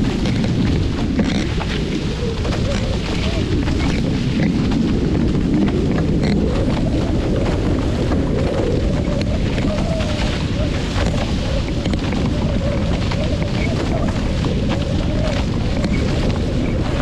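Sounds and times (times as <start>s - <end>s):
water rushing past boat: 0.0s - 17.0s
wind buffeting microphone: 0.0s - 17.0s.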